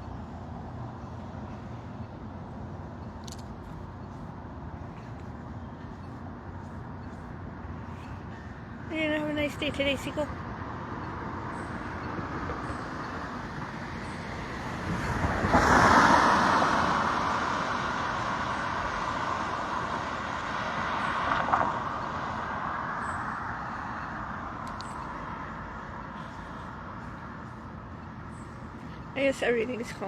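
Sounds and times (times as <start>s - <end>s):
vehicle passing: 4.3s - 30.0s.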